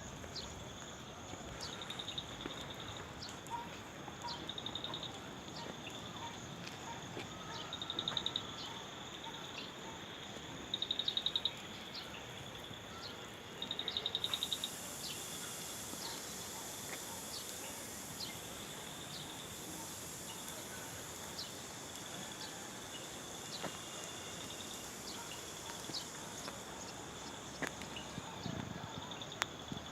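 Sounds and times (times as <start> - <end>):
higher hissy insect chorus: 0.0 - 29.9
insect chirps: 0.0 - 29.9
insect chorus buzzing: 0.0 - 29.9
rapid pulsed insect trill: 0.0 - 29.9.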